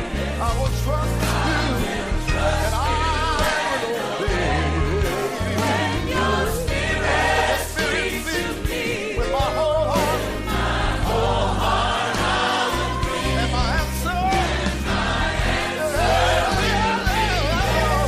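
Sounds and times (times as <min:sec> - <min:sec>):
steady bass: 0:00.0 - 0:03.6, 0:04.3 - 0:18.0
gospel choir singing: 0:00.0 - 0:18.0.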